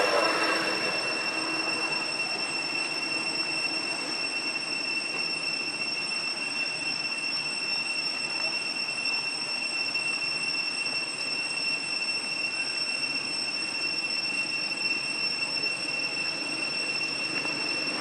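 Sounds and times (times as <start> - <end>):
steady high-pitched whine: 0.0 - 18.0.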